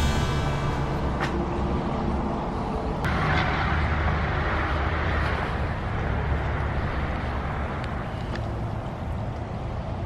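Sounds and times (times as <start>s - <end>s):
road and wind noise: 0.0s - 10.0s
vehicle engine rumble: 0.0s - 10.0s.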